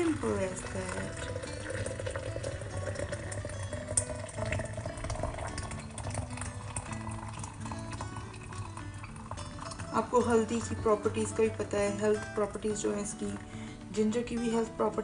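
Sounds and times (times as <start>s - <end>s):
hot water pouring into glass jug: 0.0s - 15.0s.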